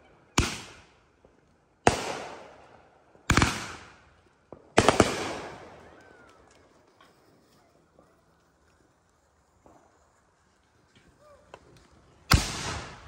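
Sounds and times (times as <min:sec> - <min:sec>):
fireworks bursting: 0:00.3 - 0:13.0.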